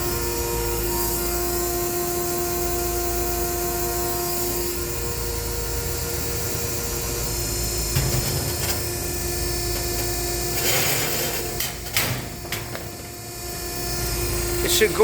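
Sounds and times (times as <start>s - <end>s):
baler motor and hydraulic hum: 0.0s - 15.0s.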